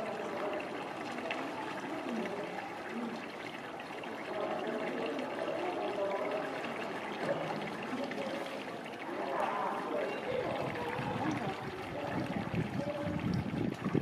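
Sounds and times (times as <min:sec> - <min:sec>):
faint wavering voice-like sounds: 0:00.0 - 0:13.4
running water: 0:00.0 - 0:14.0.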